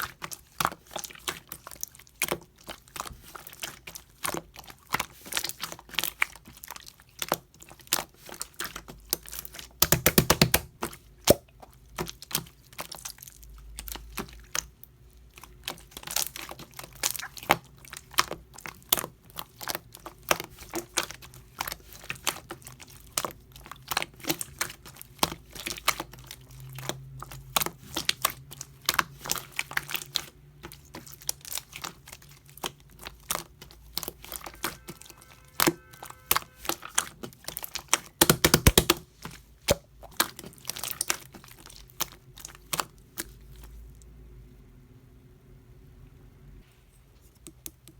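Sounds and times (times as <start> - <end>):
slime crackling and popping: 0.0 - 43.4.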